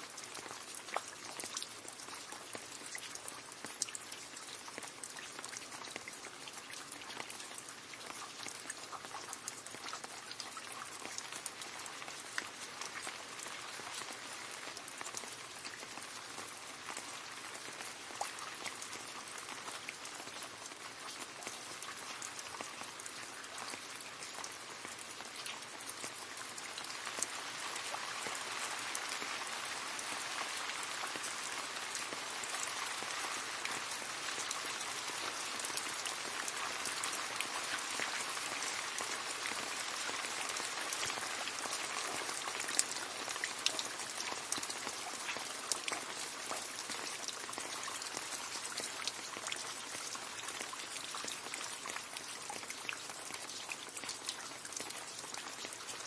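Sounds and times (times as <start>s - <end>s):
rain falling into puddle: 0.0s - 56.0s.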